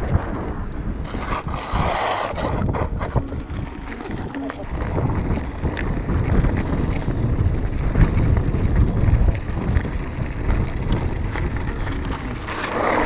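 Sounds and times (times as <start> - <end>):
bike tyres rolling over gravel: 0.0 - 13.0
wind buffeting microphone: 0.0 - 13.0.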